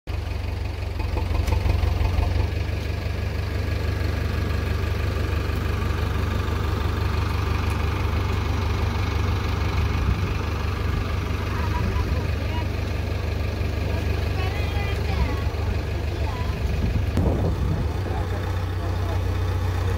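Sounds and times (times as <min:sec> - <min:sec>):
diesel engine idling: 0:00.1 - 0:19.9.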